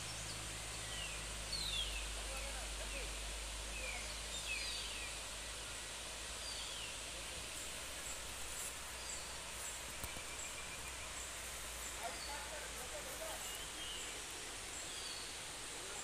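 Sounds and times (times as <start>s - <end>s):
distant waterfall rushing: 0.0s - 16.0s.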